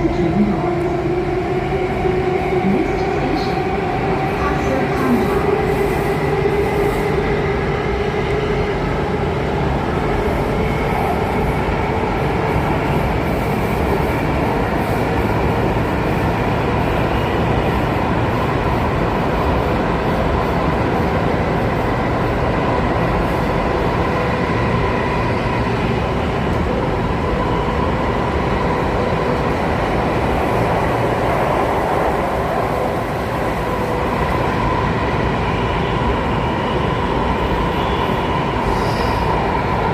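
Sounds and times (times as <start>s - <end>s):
metro train running noise: 0.0s - 39.9s.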